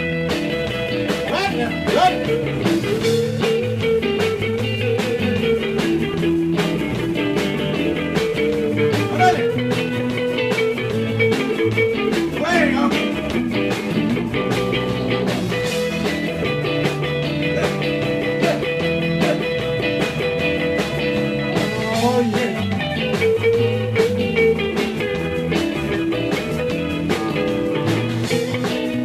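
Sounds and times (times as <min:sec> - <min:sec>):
bass guitar: 0:00.0 - 0:29.0
drum kit beat: 0:00.0 - 0:29.0
electric guitars: 0:00.0 - 0:29.0.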